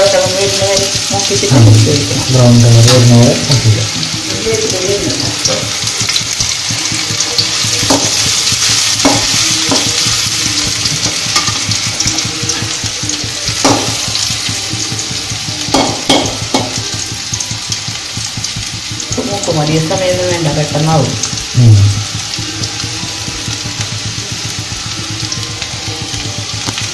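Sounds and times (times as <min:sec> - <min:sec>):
shallots sizzling in oil: 0:00.0 - 0:26.9
ladle knocking against pan: 0:02.8 - 0:26.9.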